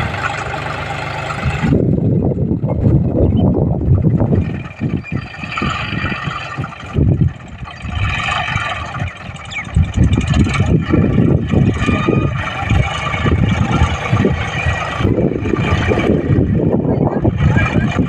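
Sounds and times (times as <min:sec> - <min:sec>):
high whine: 0:00.0 - 0:18.0
tractor diesel engine running: 0:00.0 - 0:18.0.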